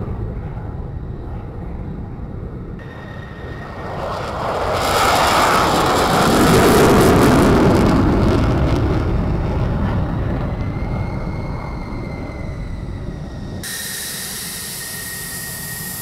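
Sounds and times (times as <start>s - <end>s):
fighter jet engine roaring: 0.0s - 16.0s.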